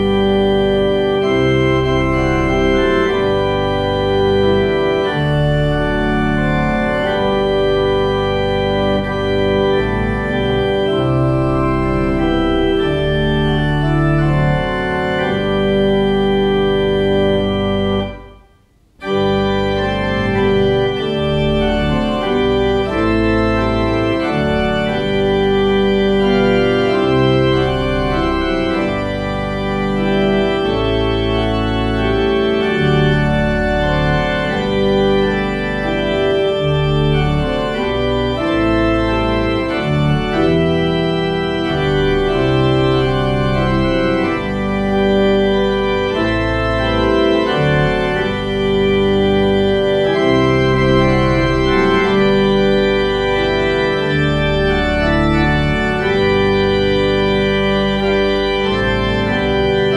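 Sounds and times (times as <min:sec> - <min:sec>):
organ playing hymn chords: 0:00.0 - 0:59.9.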